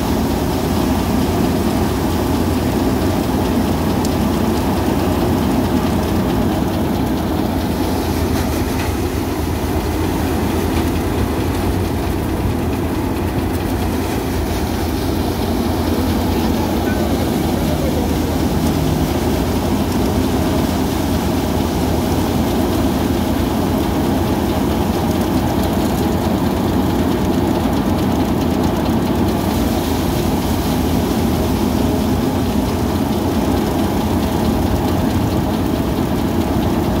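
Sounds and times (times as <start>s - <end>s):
threshing machine droning: 0.0s - 37.0s.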